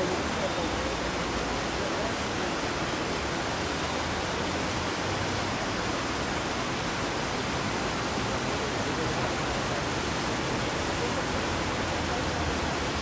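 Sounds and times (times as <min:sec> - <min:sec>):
water rushing from fountain: 0:00.0 - 0:13.0.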